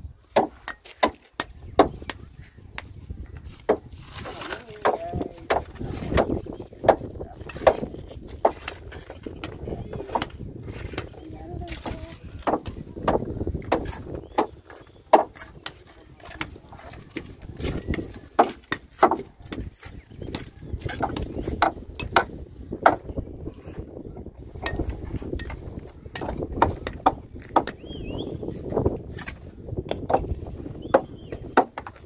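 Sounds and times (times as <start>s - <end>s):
wind rumbling on microphone: 0.0s - 32.0s.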